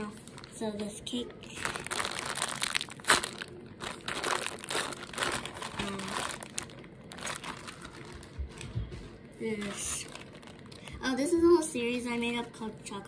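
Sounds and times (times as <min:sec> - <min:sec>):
plastic packaging crinkling: 0:00.0 - 0:08.8, 0:09.4 - 0:11.2.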